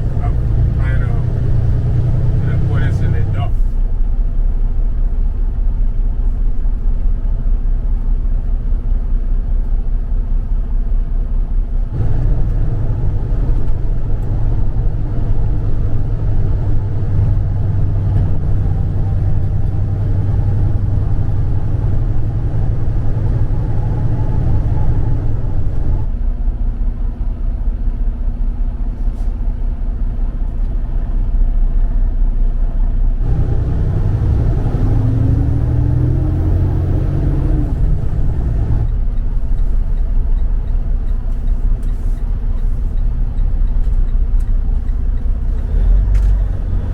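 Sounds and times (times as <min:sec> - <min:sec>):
road noise: 0:00.0 - 0:46.9
truck engine rumbling: 0:00.0 - 0:46.9.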